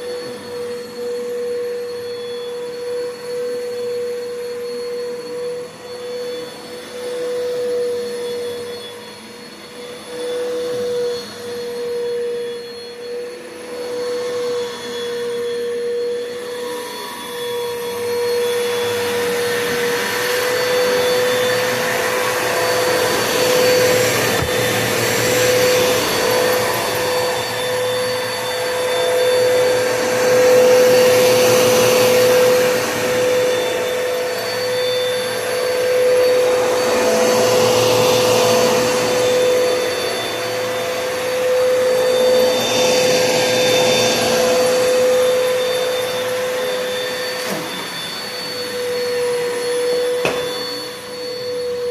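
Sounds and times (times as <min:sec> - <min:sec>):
vacuum air rush on carpet: 0:00.0 - 0:51.9
vacuum cleaner motor hum: 0:00.0 - 0:51.9.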